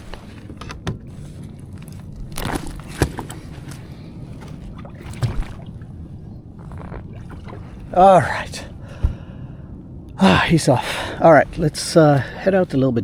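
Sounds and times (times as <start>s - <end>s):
water sloshing around kayak: 0.0s - 12.6s.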